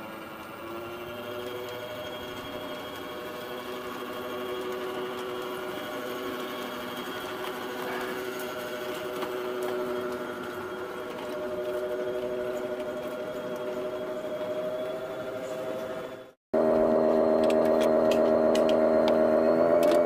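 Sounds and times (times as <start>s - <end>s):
miniature locomotive motor whine: 0.0s - 20.0s.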